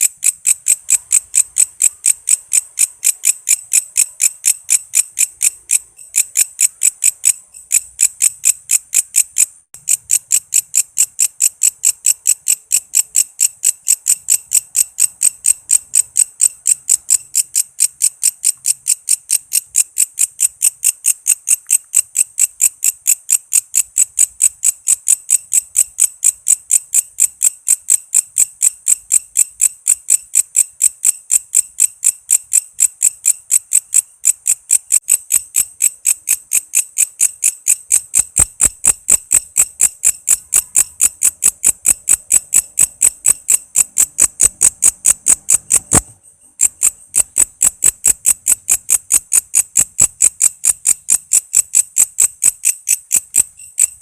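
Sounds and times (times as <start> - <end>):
katydid chirping: 0.0 - 54.0.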